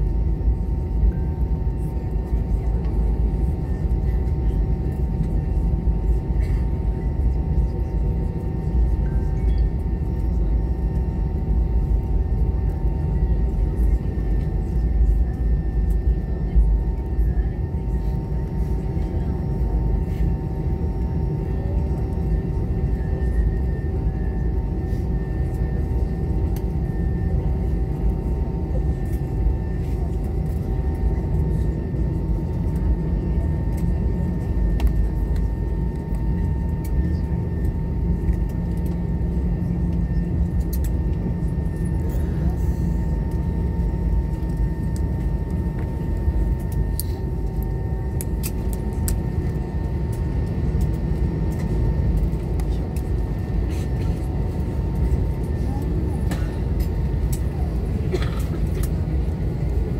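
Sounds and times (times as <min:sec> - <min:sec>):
aircraft cabin rumble: 0:00.0 - 0:59.9
faint engine whine: 0:00.0 - 0:59.9.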